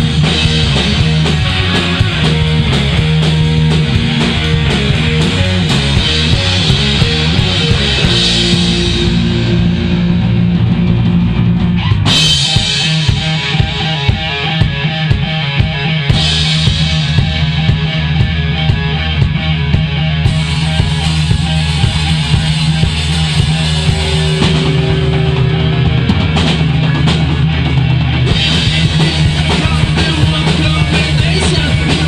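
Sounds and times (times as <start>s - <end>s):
heavy metal band playing: 0.0s - 32.0s.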